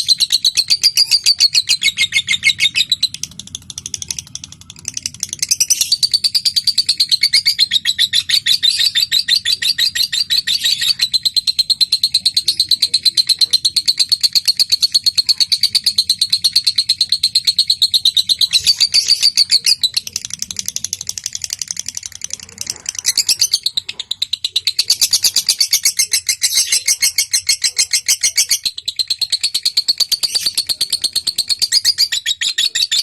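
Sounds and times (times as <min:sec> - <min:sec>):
lovebird chattering: 0:00.0 - 0:33.0.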